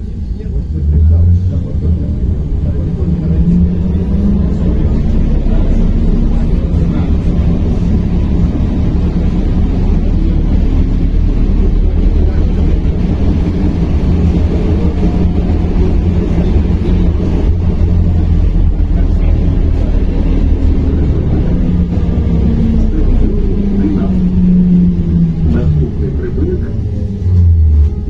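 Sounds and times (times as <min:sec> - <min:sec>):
running gear and road rumble: 0:00.0 - 0:28.0.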